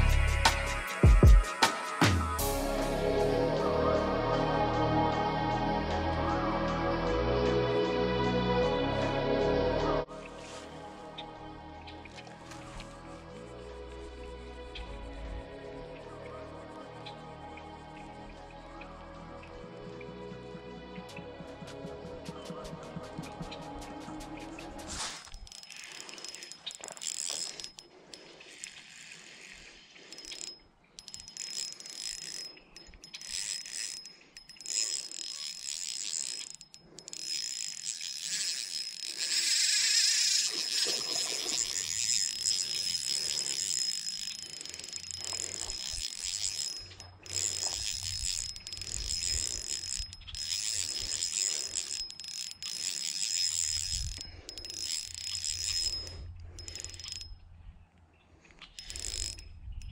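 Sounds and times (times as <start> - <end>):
fishing reel gears whirring: 0.0 - 20.0, 23.2 - 57.8, 58.6 - 59.9.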